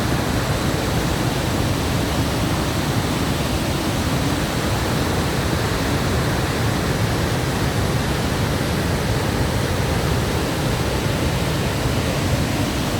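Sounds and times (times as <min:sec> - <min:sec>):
waterfall crashing: 0:00.0 - 0:12.9.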